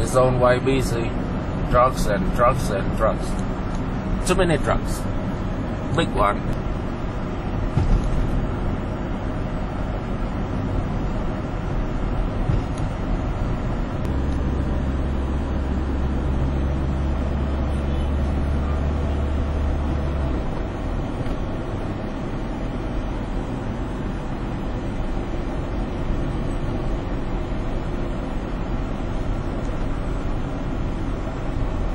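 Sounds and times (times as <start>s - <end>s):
deep engine drone: 0.0s - 31.9s
highway traffic rumble: 0.0s - 31.9s.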